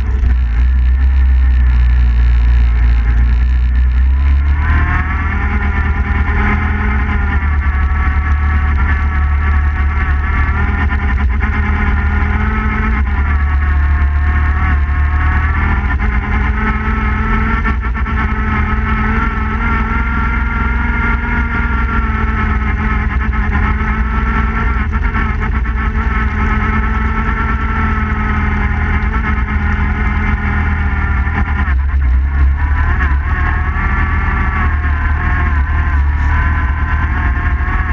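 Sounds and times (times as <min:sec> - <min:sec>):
atv engine running: 0:00.0 - 0:37.9.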